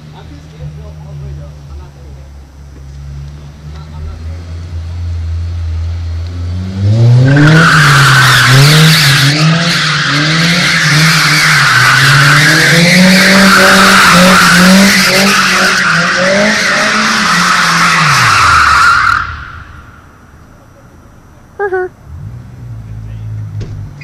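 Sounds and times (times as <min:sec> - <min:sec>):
car engine revving: 0:00.1 - 0:20.6, 0:21.4 - 0:24.0.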